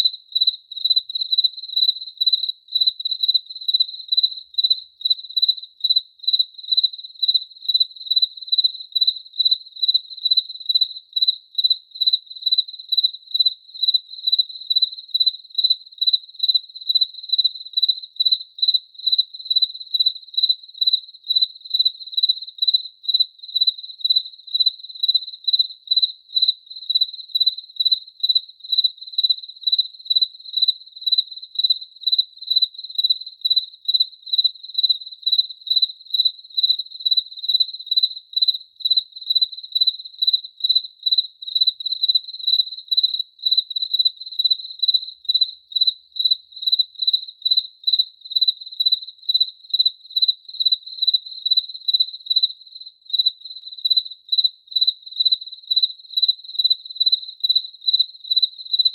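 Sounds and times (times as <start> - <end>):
cricket chirping: 0.0 - 58.9.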